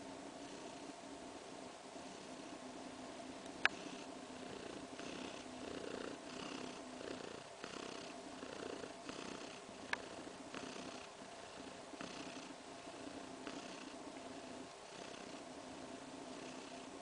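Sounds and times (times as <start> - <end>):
cat purring: 0.3 - 2.7, 3.6 - 17.0.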